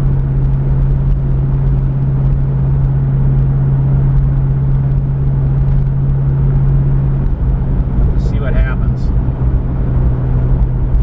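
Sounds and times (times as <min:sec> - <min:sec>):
car engine humming: 0:00.0 - 0:11.0
road noise rumble: 0:00.0 - 0:11.0.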